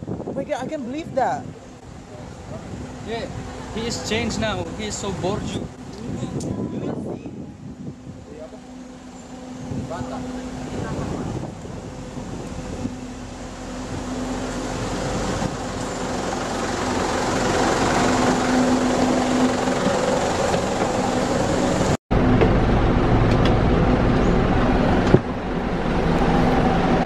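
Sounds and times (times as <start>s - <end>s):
bus engine idling: 1.5s - 27.0s.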